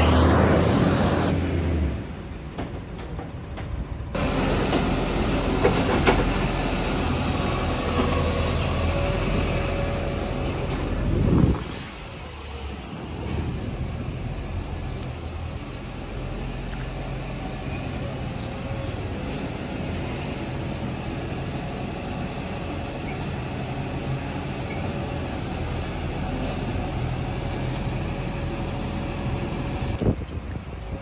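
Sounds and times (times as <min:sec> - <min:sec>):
diesel engine humming: 0:04.1 - 0:31.0.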